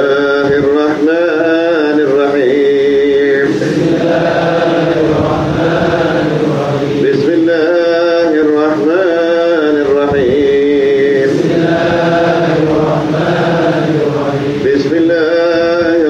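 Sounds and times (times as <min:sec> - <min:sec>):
melodic chanting: 0:00.0 - 0:16.0.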